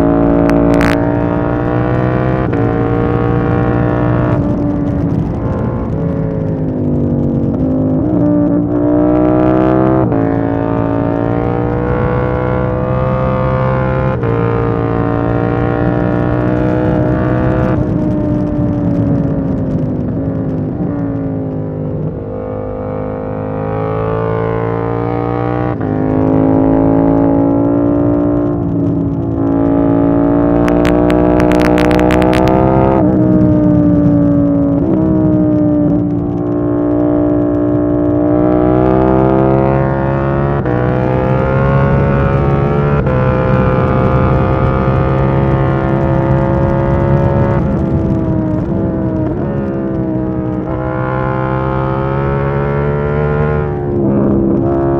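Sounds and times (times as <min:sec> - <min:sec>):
exhaust crackles: 0:00.0 - 0:22.8, 0:23.4 - 0:54.9
motorcycle engine revving: 0:00.0 - 0:54.9.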